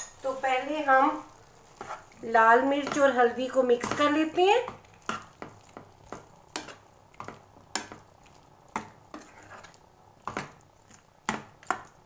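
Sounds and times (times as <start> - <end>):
spoon scraping a frying pan: 0.0 - 12.0.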